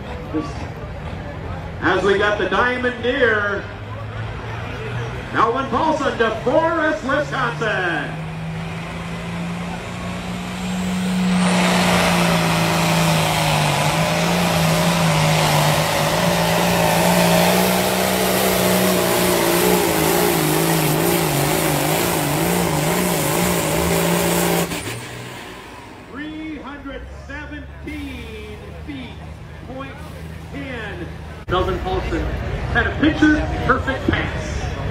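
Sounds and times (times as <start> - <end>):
tractor diesel engine at full power: 0.0 - 34.9.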